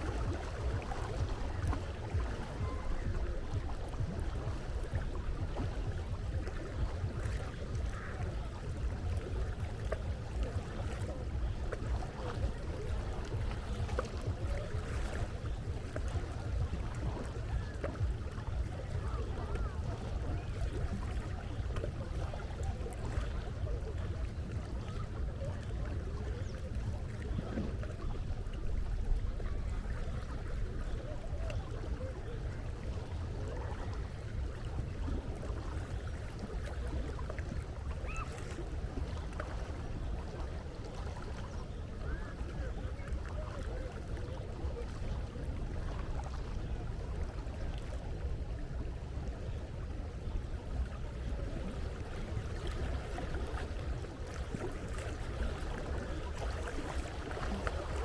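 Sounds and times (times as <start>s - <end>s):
moving sea water: 0.0s - 58.0s
wind: 0.0s - 58.0s.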